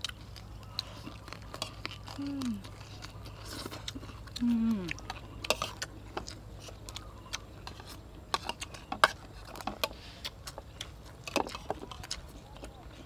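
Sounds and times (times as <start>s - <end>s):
chewing smacks: 0.0s - 13.0s.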